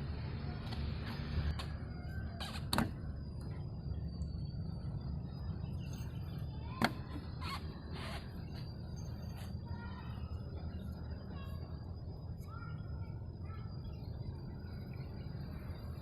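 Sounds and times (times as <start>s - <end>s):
van engine rumbling: 0.0s - 16.0s.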